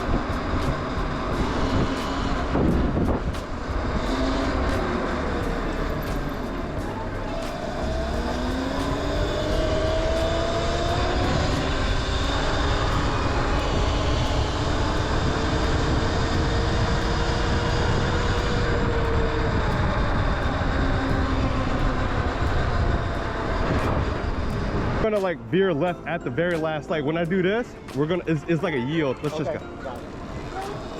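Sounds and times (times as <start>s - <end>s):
electric motors whining: 0.0s - 25.0s
rushing wind: 0.0s - 25.6s, 27.6s - 30.9s
road noise: 0.0s - 30.9s.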